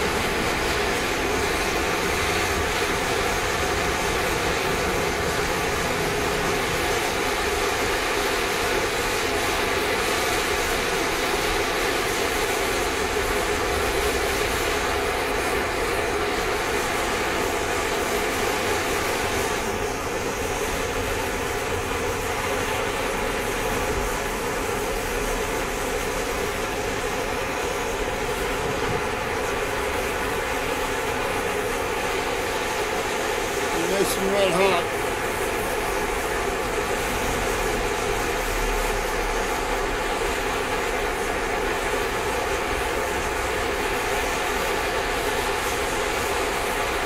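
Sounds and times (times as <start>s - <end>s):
gas torch flame rushing: 0.0s - 47.0s.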